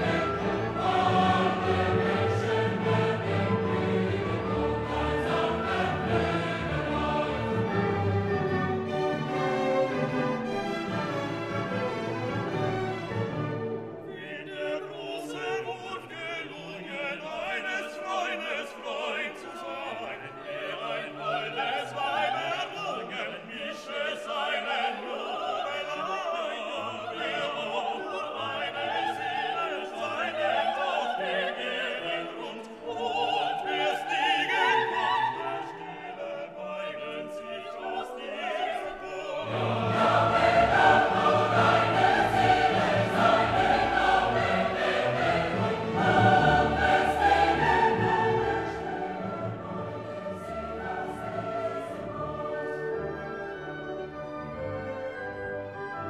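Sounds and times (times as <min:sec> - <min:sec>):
orchestral music with singing: 0:00.0 - 0:56.0.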